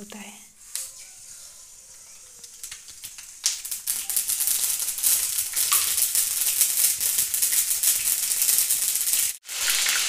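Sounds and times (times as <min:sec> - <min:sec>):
seeds crackling in hot oil: 0:00.5 - 0:10.0.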